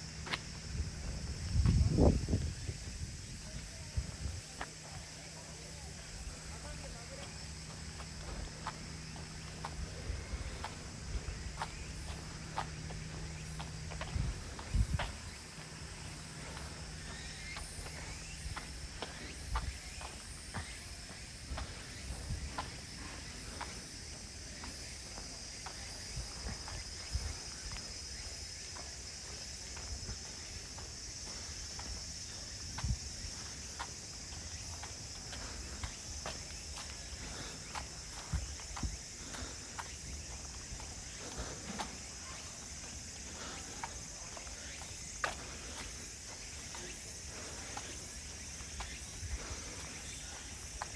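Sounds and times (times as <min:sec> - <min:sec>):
chorus of crickets and insects: 0:00.0 - 0:50.9
footsteps on a path: 0:00.0 - 0:50.9.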